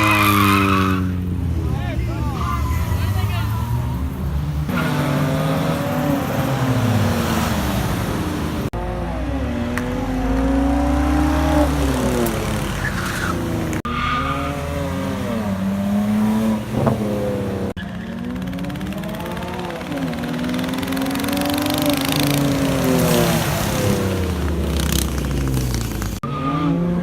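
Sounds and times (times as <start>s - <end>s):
car engines revving and accelerating: 0.0s - 27.0s.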